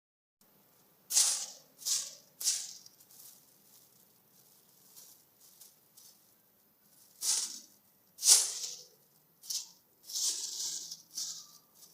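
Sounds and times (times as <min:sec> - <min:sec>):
plastic crinkling: 0:00.7 - 0:11.9.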